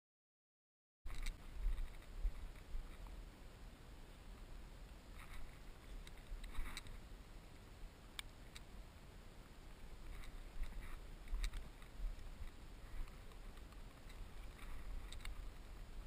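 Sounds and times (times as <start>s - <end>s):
rustles: 1.1s - 16.0s.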